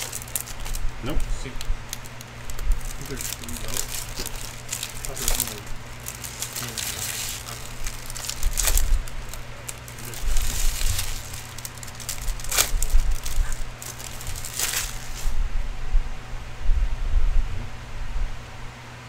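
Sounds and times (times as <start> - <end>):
foil wrappers crinkling: 0.0 - 15.4.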